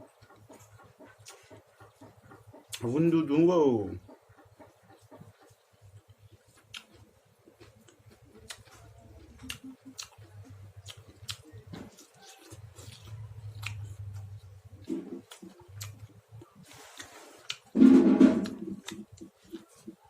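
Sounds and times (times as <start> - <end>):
person chewing food: 0.0 - 2.9, 4.0 - 20.0.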